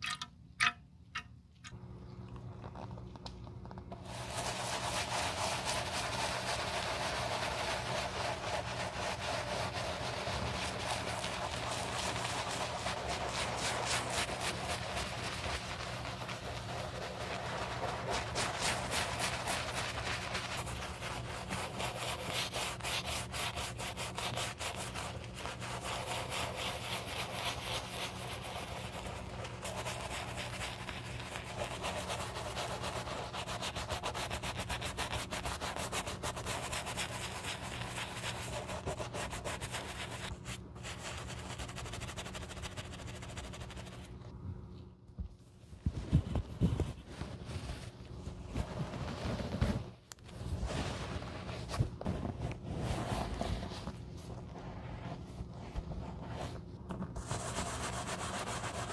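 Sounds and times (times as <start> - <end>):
brush scrubbing leather shoe: 4.0 - 44.1, 50.6 - 58.9.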